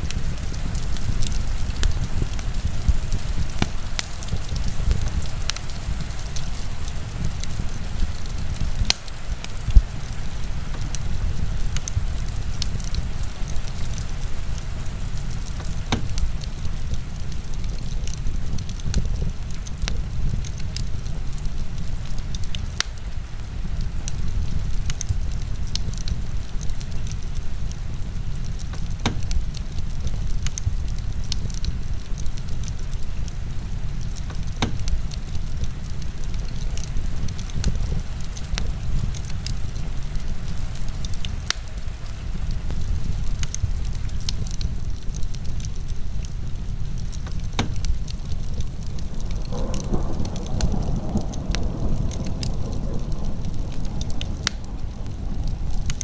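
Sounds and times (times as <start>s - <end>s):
heavy rain falling: 0.0s - 56.0s
wood fire crackling and popping: 0.0s - 56.0s.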